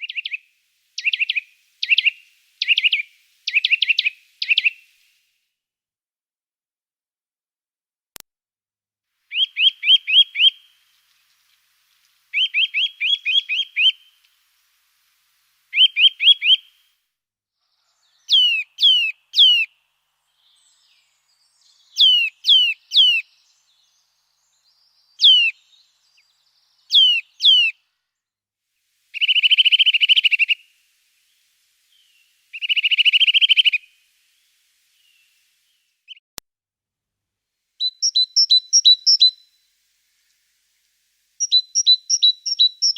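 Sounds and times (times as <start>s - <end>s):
small songbird singing: 0.0s - 5.2s, 9.3s - 16.9s, 17.6s - 36.4s, 37.6s - 42.9s.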